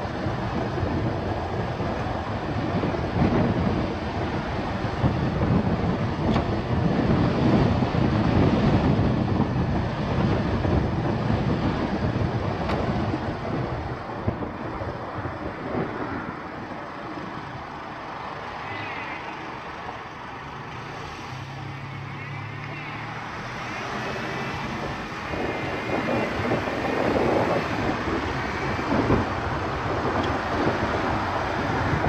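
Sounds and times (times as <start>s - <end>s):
car road and wind noise: 0.0s - 32.0s.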